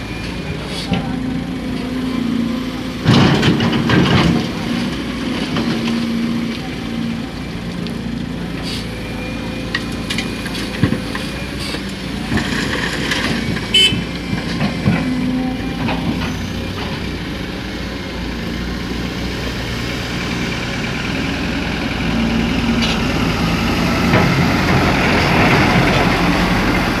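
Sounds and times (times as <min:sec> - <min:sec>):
heavy machinery diesel engine: 0:00.0 - 0:27.0.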